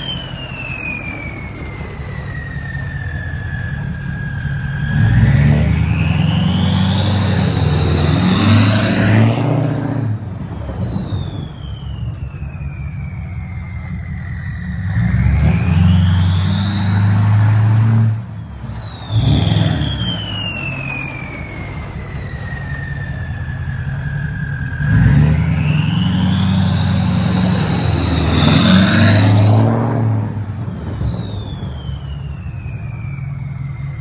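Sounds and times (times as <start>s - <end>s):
turbo whistle: 0.0s - 23.4s, 24.0s - 34.0s
diesel engine rumble: 0.0s - 34.0s.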